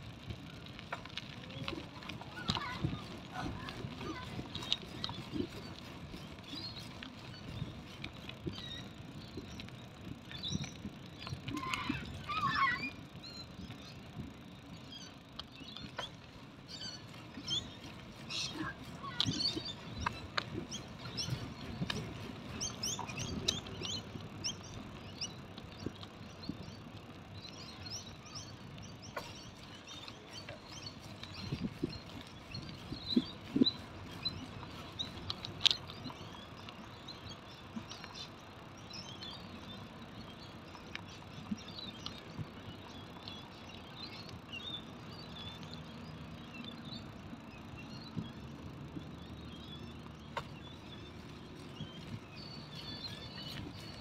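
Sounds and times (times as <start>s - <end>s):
bicycle rumbling on asphalt: 0.0s - 54.0s
small birds chirping: 0.0s - 54.0s.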